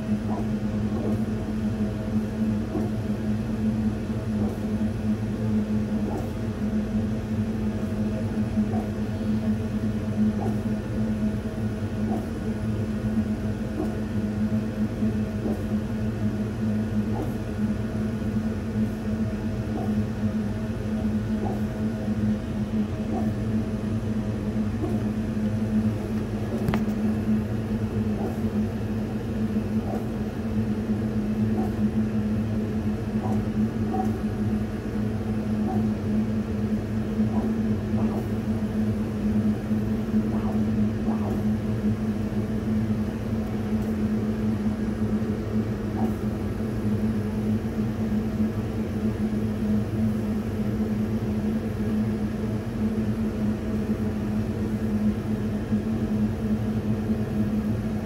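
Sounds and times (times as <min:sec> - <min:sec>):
laser cutter fans humming: 0:00.0 - 0:58.0.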